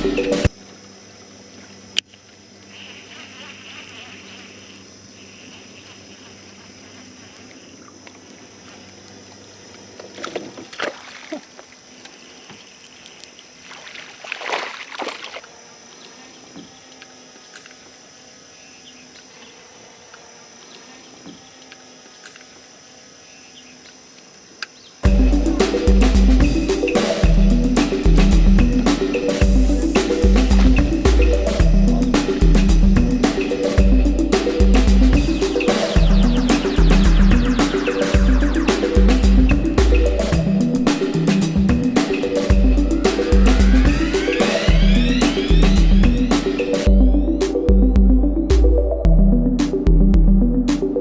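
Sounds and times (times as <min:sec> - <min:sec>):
insects buzzing: 0:00.0 - 0:47.7.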